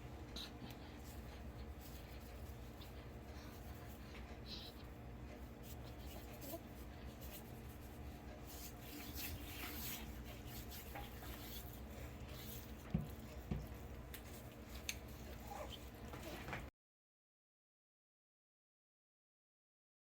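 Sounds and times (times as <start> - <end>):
soft rubbing and rustling: 0.0 - 16.7.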